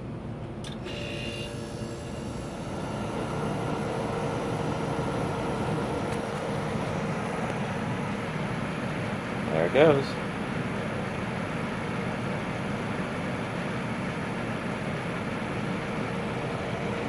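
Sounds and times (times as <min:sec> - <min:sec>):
fan rushing air: 0:00.0 - 0:17.0
steady hum: 0:00.0 - 0:17.0.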